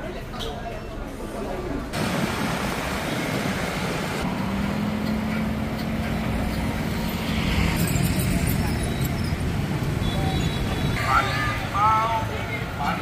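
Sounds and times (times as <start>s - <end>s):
motorbike and car engines: 2.0s - 13.0s.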